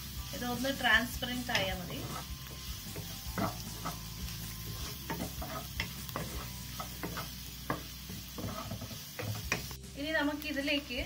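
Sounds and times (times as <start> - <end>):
onions sizzling in oil: 0.0 - 11.0
wooden spatula scraping wok: 0.3 - 9.8.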